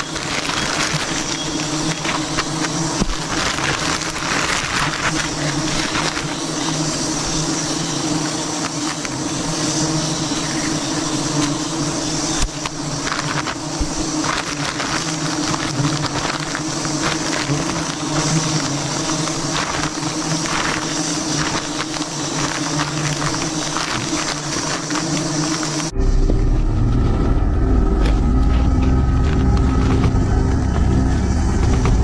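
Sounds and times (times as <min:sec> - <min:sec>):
faint clicks and crackles: 0:00.0 - 0:07.3, 0:11.4 - 0:25.9, 0:26.8 - 0:32.0
honeybees buzzing: 0:00.0 - 0:32.0.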